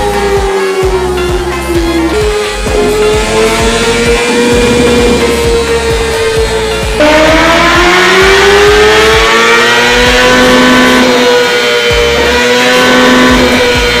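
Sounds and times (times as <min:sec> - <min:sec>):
motorcycle engine at full throttle: 0:00.0 - 0:14.0
music with thumping beat: 0:00.0 - 0:14.0.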